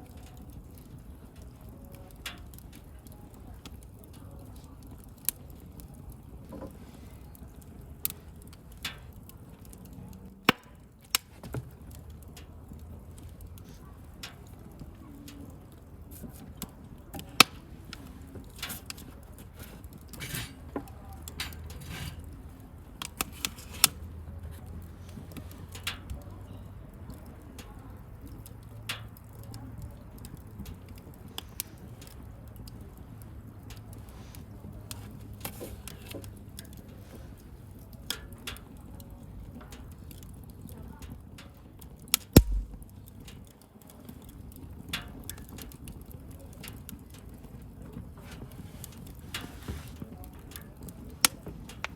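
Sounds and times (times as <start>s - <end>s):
bonfire crackling: 0.0s - 51.9s.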